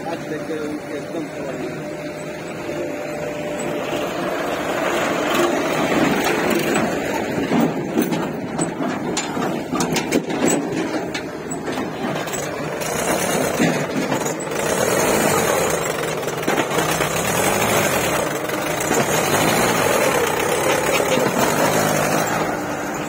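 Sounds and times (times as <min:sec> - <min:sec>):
diesel tractor engine: 0:00.0 - 0:23.0
sharp clattering: 0:03.5 - 0:23.0.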